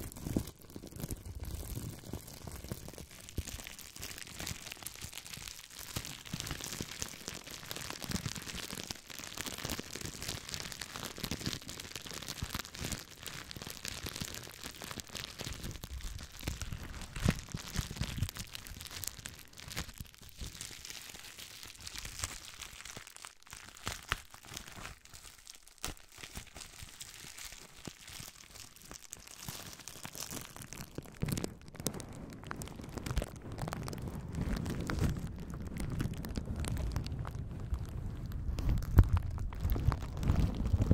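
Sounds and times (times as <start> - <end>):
bubble wrap crinkling: 0.0 - 40.9.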